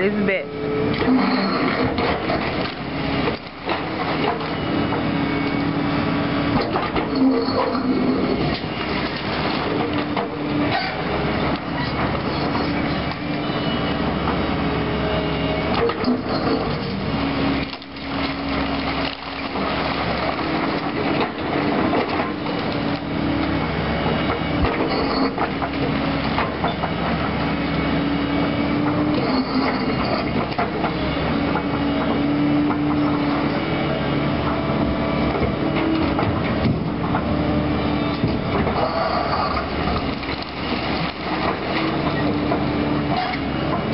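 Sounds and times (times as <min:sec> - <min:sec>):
excavator engine and hydraulics whine: 0:00.0 - 0:43.9.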